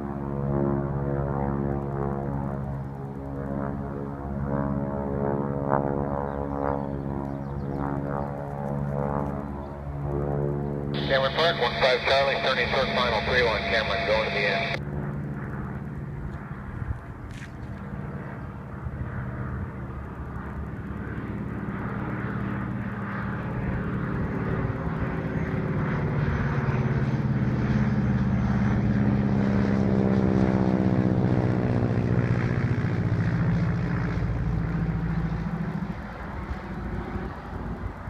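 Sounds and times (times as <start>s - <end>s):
propeller plane passing overhead: 0.0s - 38.0s.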